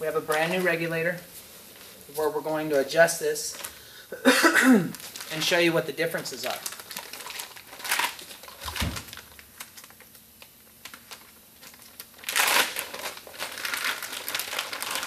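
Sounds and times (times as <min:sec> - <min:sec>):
plastic bag crinkling: 0:00.0 - 0:03.8, 0:04.8 - 0:15.0.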